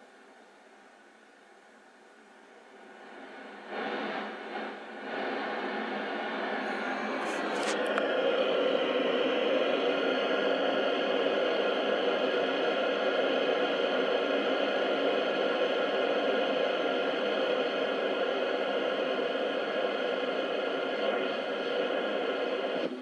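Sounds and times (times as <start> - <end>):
shortwave radio static hiss: 0.0 - 23.0.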